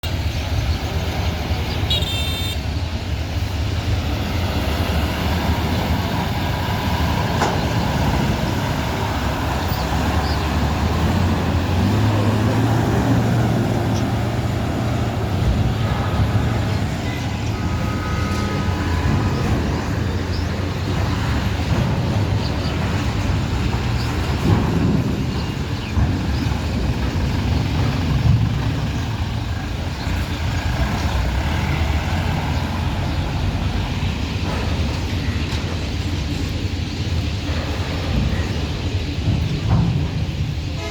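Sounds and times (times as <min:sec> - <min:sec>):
heavy vehicle engines rumbling: 0:00.0 - 0:40.9
traffic noise: 0:00.0 - 0:40.9.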